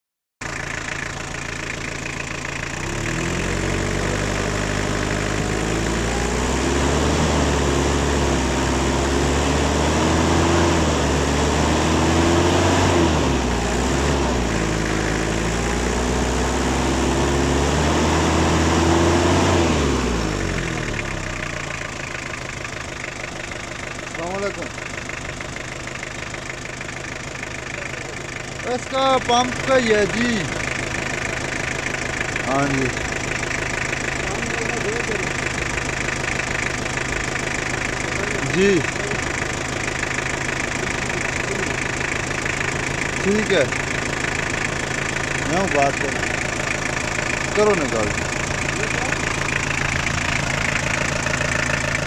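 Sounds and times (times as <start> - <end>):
diesel engine idling and revving: 0.4 - 52.0.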